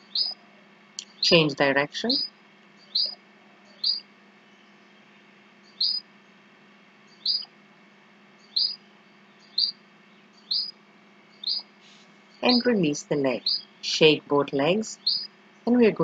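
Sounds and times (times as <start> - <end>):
bird chirping: 0.0 - 6.1, 7.0 - 7.5, 8.4 - 16.0
faint low hum: 0.0 - 16.0.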